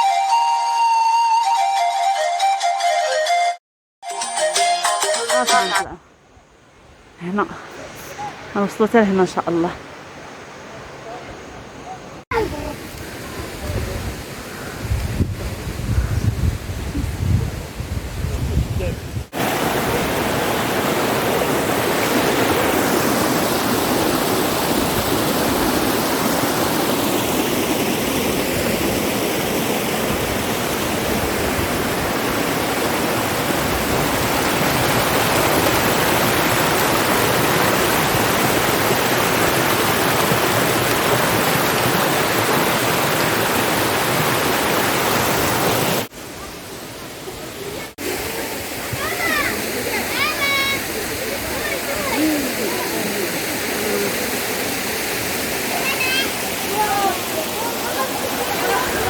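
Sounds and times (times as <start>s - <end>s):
waterfall rushing: 7.2s - 14.8s, 19.3s - 59.0s.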